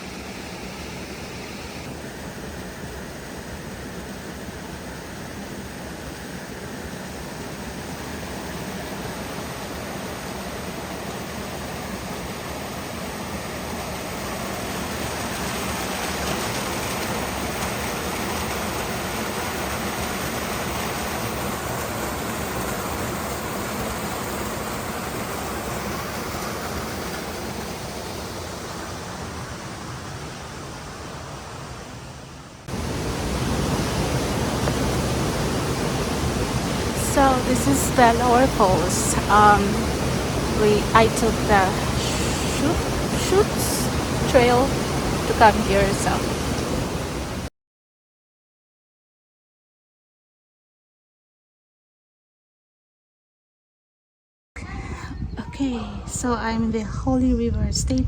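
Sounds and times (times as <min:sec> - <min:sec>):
waterfall rushing: 0:00.0 - 0:47.5.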